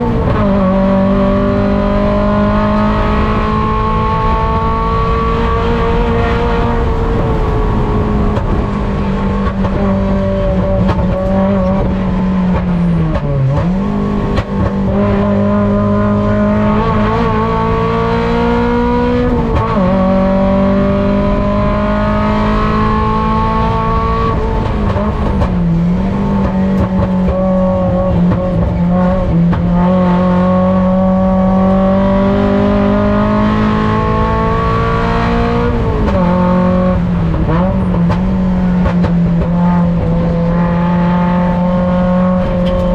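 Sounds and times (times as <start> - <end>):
race car engine under load: 0.0 - 42.9.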